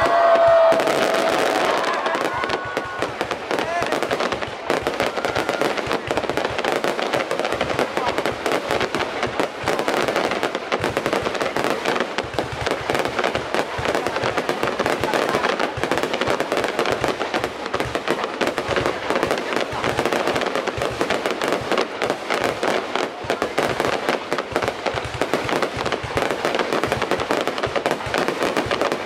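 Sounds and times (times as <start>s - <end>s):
fireworks crackling and banging: 0.0s - 29.0s.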